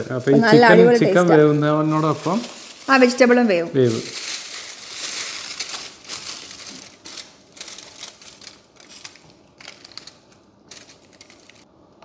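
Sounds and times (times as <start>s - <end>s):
crunchy rustling and crackles: 1.4s - 11.7s.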